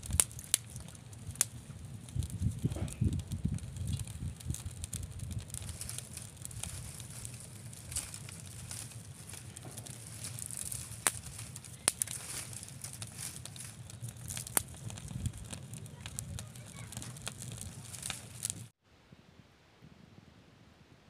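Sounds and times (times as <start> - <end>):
sharp pops from fire: 0.0 - 18.7
twig fire crackling: 0.0 - 18.8.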